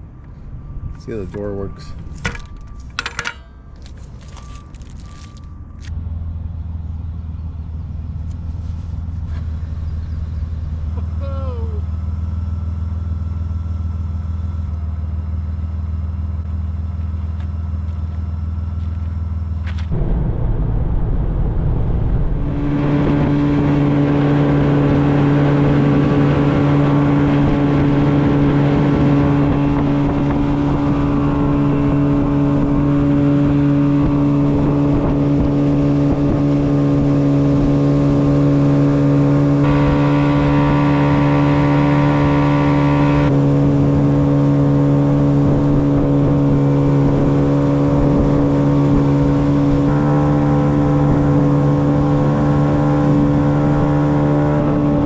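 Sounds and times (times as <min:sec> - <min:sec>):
engine idling and revving: 0:00.0 - 0:55.0.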